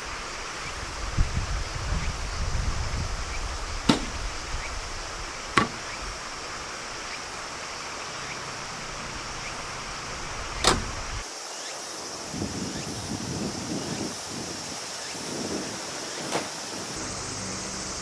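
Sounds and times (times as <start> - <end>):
high insect sound: 0.0 - 18.0.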